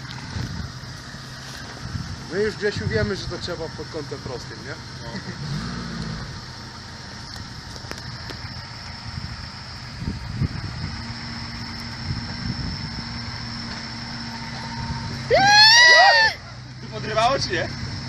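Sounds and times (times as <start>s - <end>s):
off-road vehicle engine at low revs: 0.0s - 18.0s.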